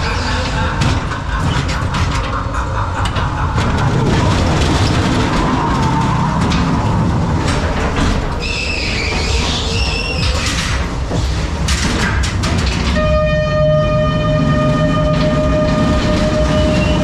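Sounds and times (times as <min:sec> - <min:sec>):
ride car wheels rumbling on track: 0:00.0 - 0:17.0.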